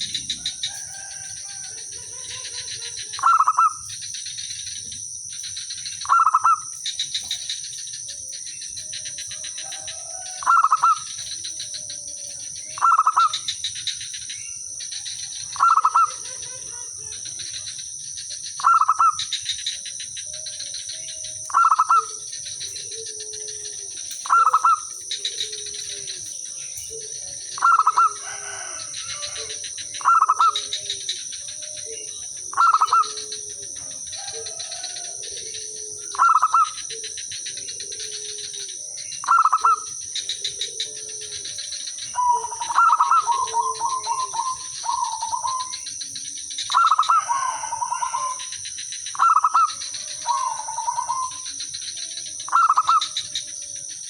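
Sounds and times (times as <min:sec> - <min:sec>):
dove cooing song: 0:00.0 - 0:54.0
faint lower bird calls: 0:00.0 - 0:54.0
high insect drone: 0:00.0 - 0:54.0.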